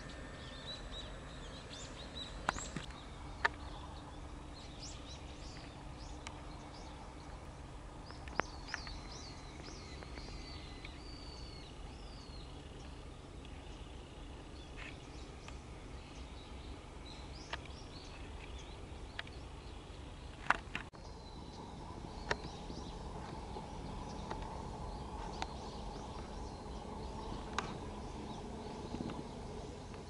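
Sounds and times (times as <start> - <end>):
bird chirps: 0.0 - 30.0
faint steady hum: 0.0 - 30.0
low rumble: 0.0 - 30.0.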